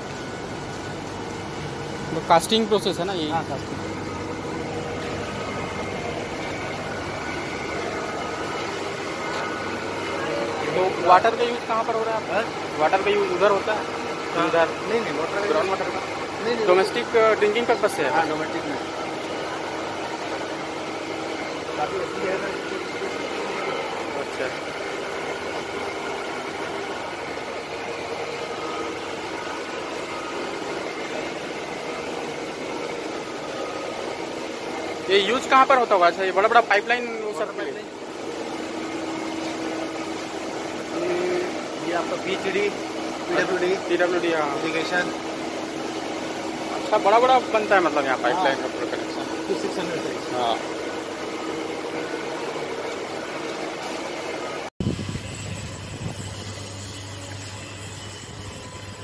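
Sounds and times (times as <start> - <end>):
machinery drone: 0.0 - 59.0.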